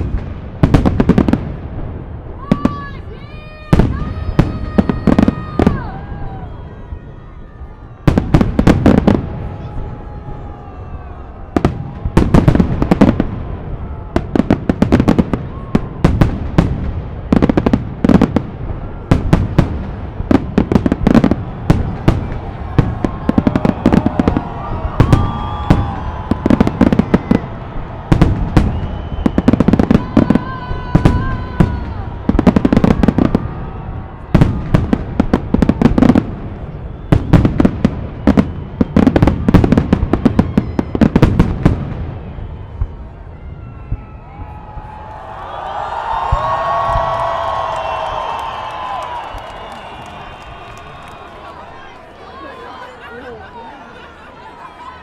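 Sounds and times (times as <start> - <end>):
crowd voices: 0.0 - 55.0
fireworks bursts and crackles: 0.0 - 55.0.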